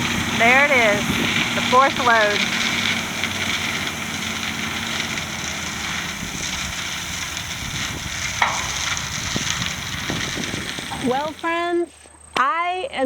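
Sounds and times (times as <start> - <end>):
heavy machinery engine running: 0.0 - 11.8
even hiss: 0.0 - 11.9.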